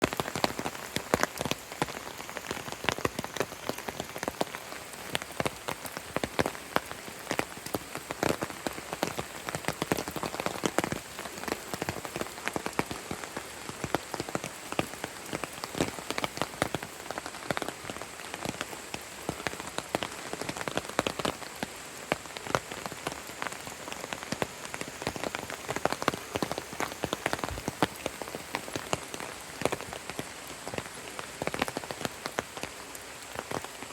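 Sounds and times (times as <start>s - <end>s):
raindrops tapping: 0.0s - 33.9s
steady rain hiss: 0.0s - 33.9s.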